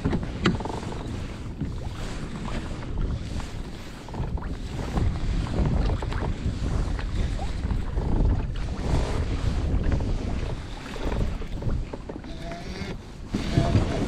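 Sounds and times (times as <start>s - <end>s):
small waves slapping hull: 0.0s - 14.0s
wind rumbling on microphone: 0.0s - 14.0s.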